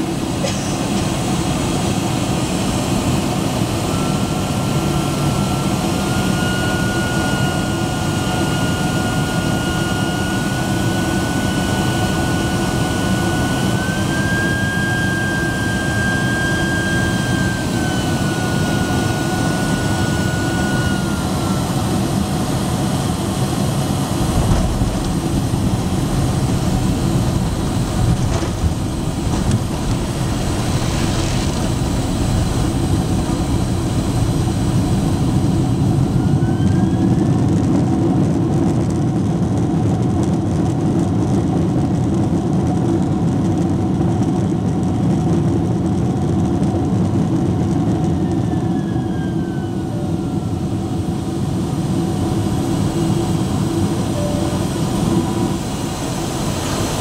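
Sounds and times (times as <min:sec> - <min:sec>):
deep runway rumble: 0:00.0 - 0:57.0
high engine whine: 0:00.0 - 0:57.0
jet engine and airflow rush: 0:00.0 - 0:57.0.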